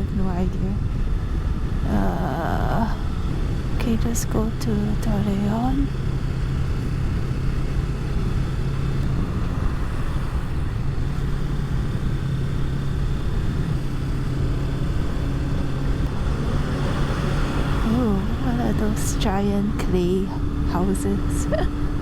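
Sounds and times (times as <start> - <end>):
low wind rumble: 0.0 - 22.0
motorcycle engine cruising: 0.0 - 22.0.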